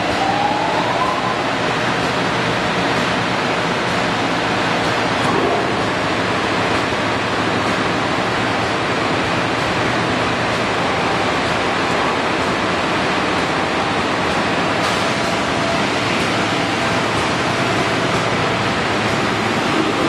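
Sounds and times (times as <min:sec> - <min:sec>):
machine running with rushing noise: 0:00.0 - 0:20.0.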